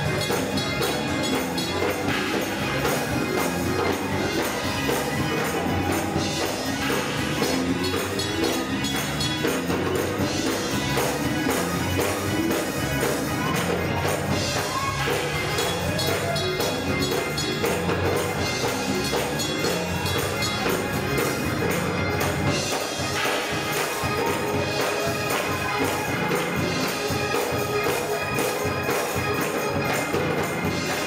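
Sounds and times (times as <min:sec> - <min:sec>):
gospel choir and band: 0:00.0 - 0:31.0
hand clapping: 0:00.3 - 0:31.0.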